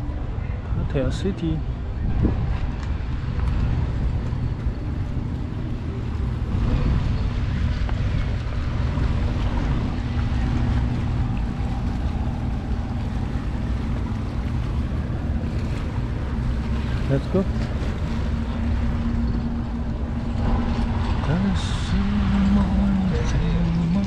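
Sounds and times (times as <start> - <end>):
boat engines humming: 0.0 - 24.0
wind rumbling on microphone: 0.0 - 24.0.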